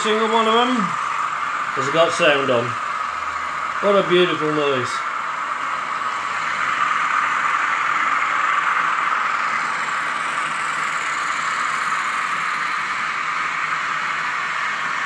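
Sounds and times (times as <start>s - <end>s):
model locomotive engine drone: 0.0s - 15.0s.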